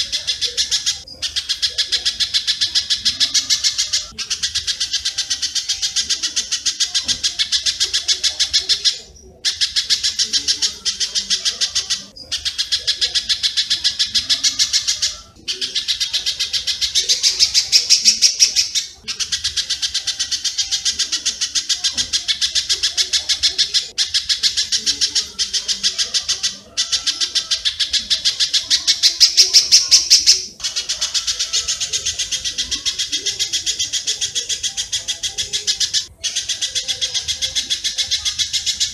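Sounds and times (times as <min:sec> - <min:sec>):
harsh high bird chirps: 0:00.0 - 0:38.9.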